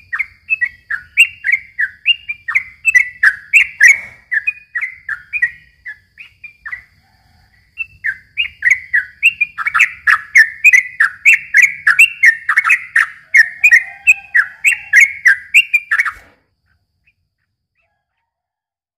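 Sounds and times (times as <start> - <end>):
bulbul singing rapid chirps: 0.0 - 7.0, 7.6 - 16.4.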